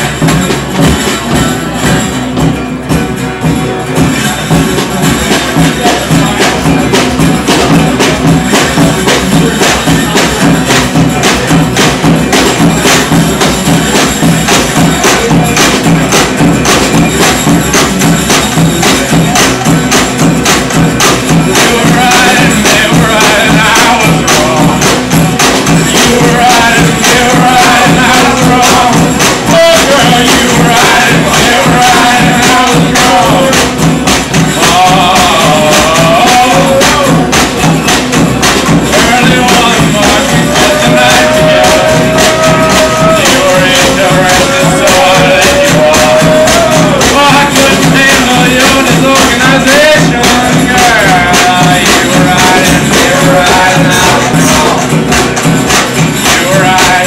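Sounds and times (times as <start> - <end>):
percussion steady beat: 0.0 - 57.0
strummed acoustic guitar: 0.0 - 57.0.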